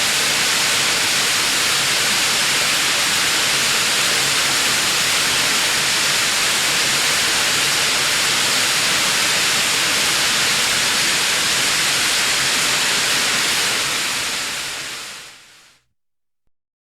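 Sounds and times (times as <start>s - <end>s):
waterfall hiss: 0.0s - 15.8s.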